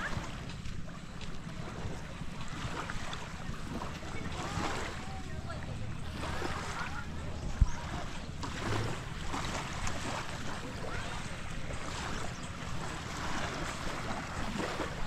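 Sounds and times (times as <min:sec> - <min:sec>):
small waves washing ashore: 0:00.0 - 0:15.0
wind noise on microphone: 0:00.0 - 0:15.0.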